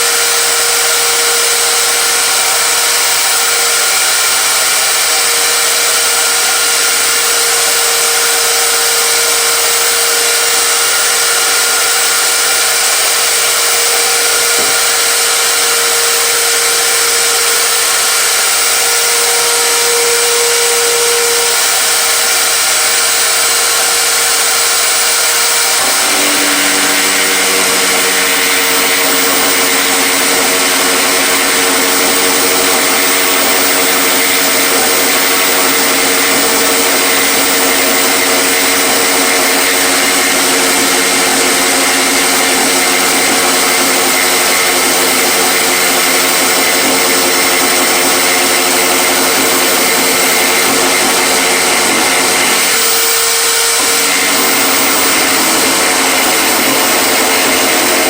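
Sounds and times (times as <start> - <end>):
power tool motor running: 0.0 - 58.0.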